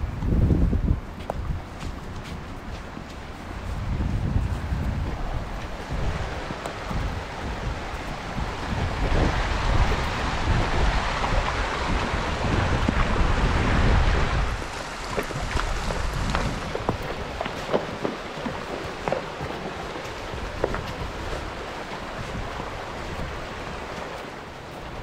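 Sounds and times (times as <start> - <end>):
shallow creek rushing: 0.0 - 25.0
wind buffeting microphone: 0.0 - 25.0
hoof splashes in water: 1.2 - 25.0.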